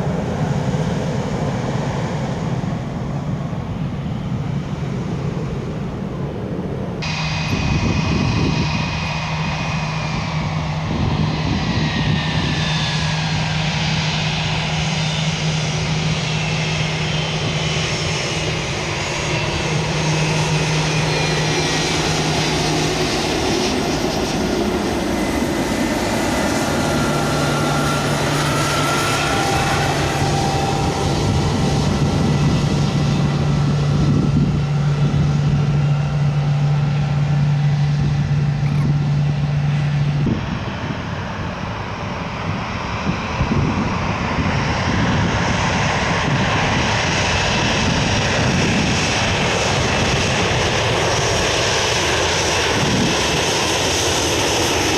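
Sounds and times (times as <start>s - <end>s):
jet airliner engines passing: 0.0s - 54.9s.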